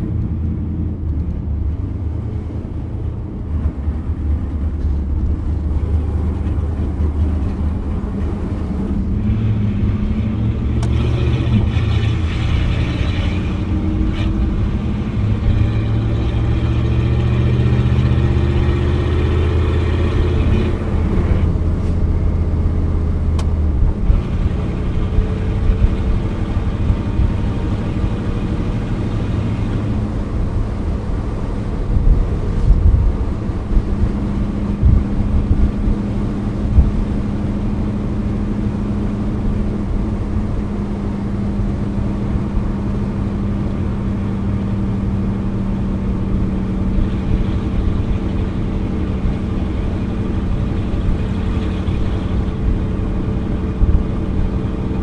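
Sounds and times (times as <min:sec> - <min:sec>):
car engine accelerating: 0:00.0 - 0:55.0
tyre and road noise: 0:00.0 - 0:55.0.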